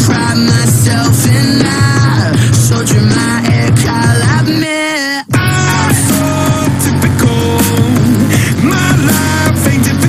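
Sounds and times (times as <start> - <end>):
pop-rock music: 0.0 - 10.0.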